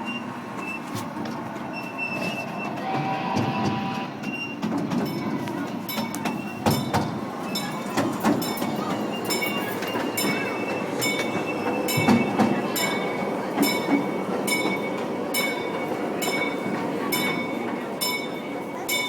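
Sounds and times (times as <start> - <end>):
faint high wheel squeal: 0.0 - 19.0
train cars rolling on track: 0.0 - 19.0.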